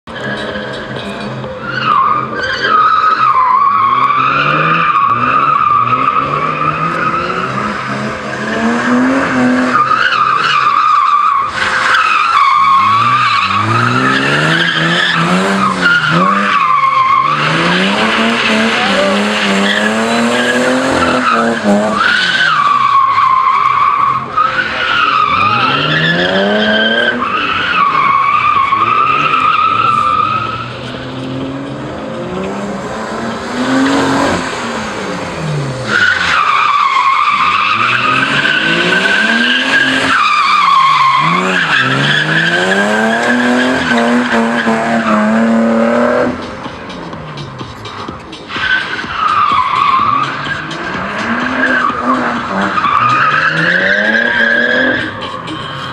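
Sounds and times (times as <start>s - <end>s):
car engine revving: 0.0s - 55.9s
tyres squealing: 0.1s - 55.9s.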